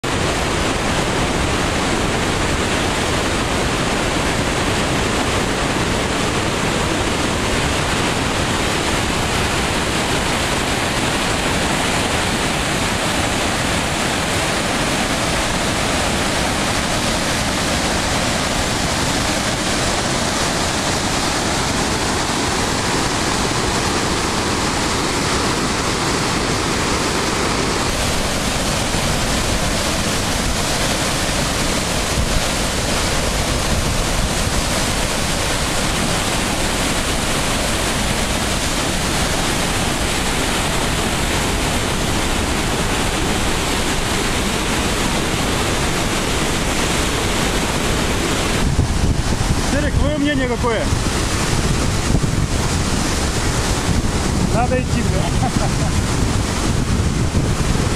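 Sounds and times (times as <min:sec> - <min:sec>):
waterfall rushing over rocks: 0:00.0 - 0:57.9.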